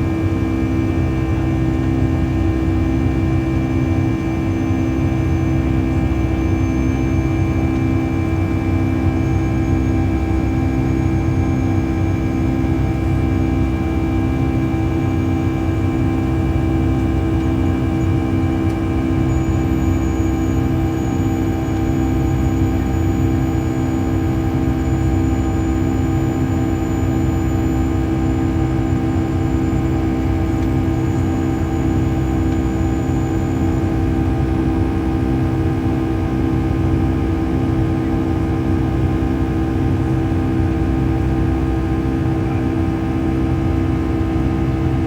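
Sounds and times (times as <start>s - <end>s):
faint high whine: 0.0s - 45.0s.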